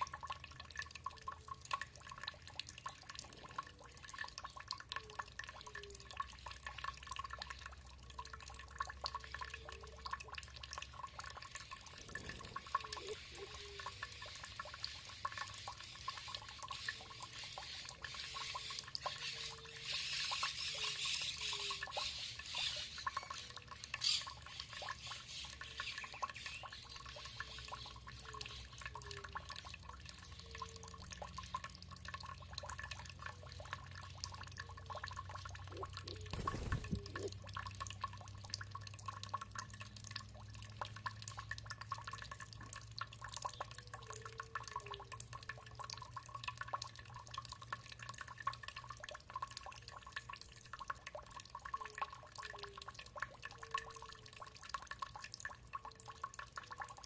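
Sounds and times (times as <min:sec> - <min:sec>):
water dripping and trickling: 0:00.0 - 0:57.0.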